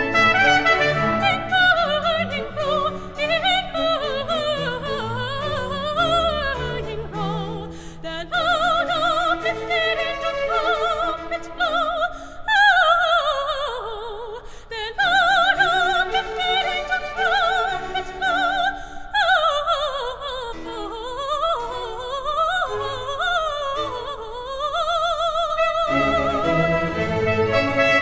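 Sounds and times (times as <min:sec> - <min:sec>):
soft orchestral accompaniment: 0:00.0 - 0:12.2, 0:15.0 - 0:28.0
soprano singing with vibrato: 0:00.0 - 0:28.0.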